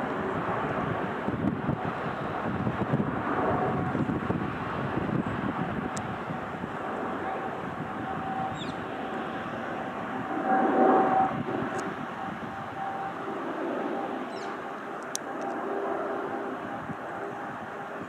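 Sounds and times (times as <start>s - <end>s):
jet engines rumbling overhead: 0.0s - 18.0s.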